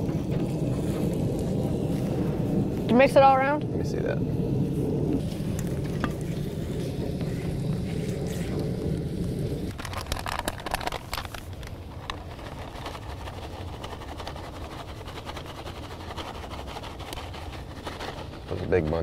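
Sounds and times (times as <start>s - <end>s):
food frying hiss: 0.0s - 18.5s.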